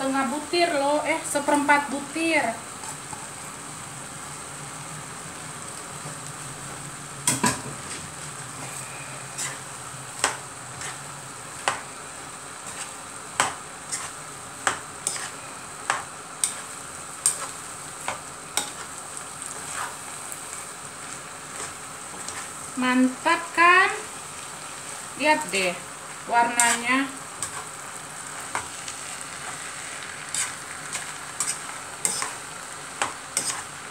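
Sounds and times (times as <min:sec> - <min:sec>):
food sizzling in a pot: 0:00.0 - 0:33.9.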